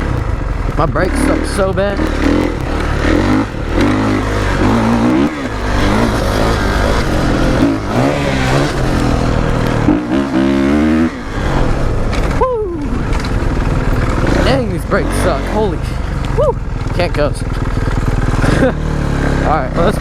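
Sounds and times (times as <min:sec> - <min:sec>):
wind noise: 0:00.0 - 0:17.7
dirt bike engine revving: 0:00.0 - 0:20.0.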